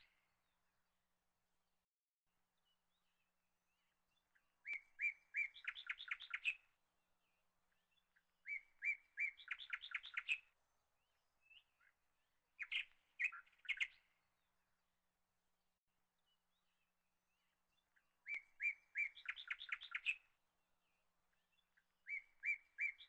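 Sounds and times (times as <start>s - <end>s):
songbird singing: 2.4s - 15.2s, 16.0s - 23.0s.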